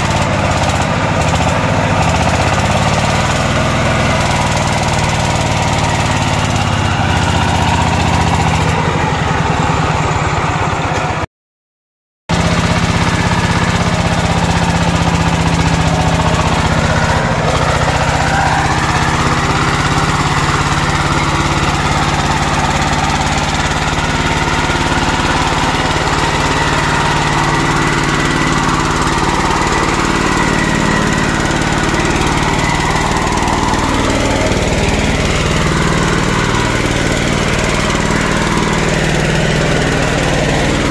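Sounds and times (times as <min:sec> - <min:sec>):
wheels spinning in mud: 0:00.0 - 0:11.2, 0:12.3 - 0:40.9
diesel tractor engine running hard: 0:00.0 - 0:11.3, 0:12.3 - 0:40.9.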